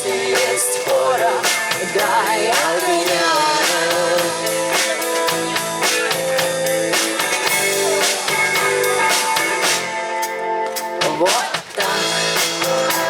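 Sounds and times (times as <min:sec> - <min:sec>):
drum kit: 0:00.0 - 0:13.0
electric guitar: 0:00.0 - 0:13.0.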